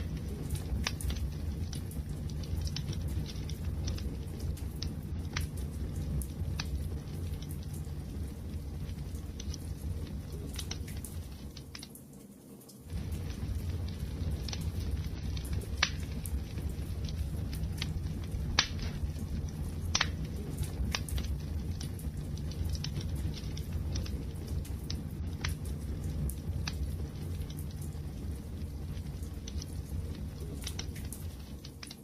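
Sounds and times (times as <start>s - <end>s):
flames rumbling: 0.0s - 11.9s, 12.6s - 32.0s
wood fire popping: 0.0s - 32.0s.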